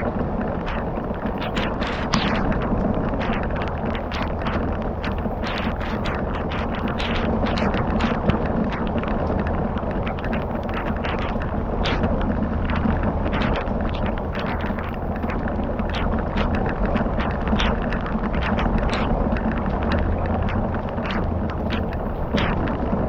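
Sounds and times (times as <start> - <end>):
fire crackling and popping: 0.0 - 23.0
low rumble: 0.0 - 23.0.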